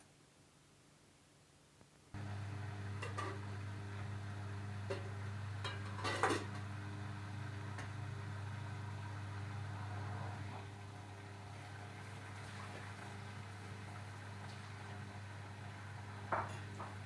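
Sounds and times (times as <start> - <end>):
washing machine humming: 2.2 - 17.0.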